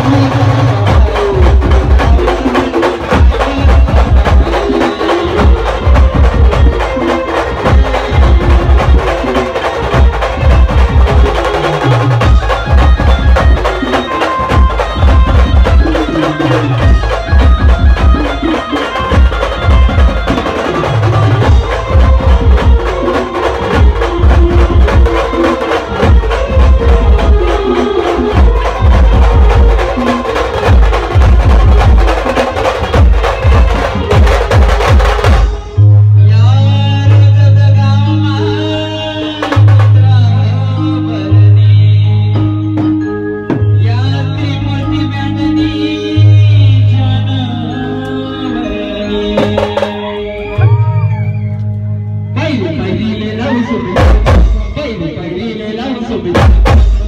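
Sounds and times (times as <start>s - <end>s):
drums with heavy bass beats: 0.0s - 47.6s, 49.1s - 51.4s, 53.0s - 55.1s, 56.0s - 57.0s
keyboard melody: 0.0s - 57.0s.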